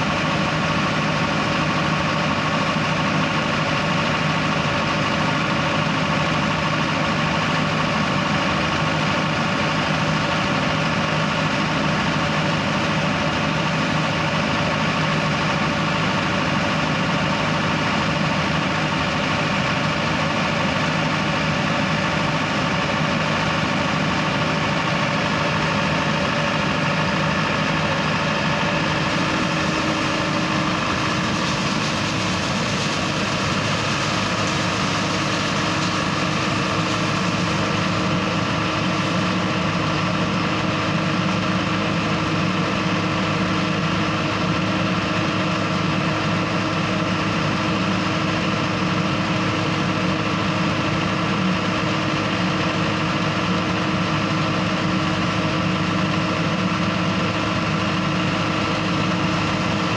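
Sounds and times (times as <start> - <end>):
leaf vacuum and truck engine drone: 0.0 - 59.9.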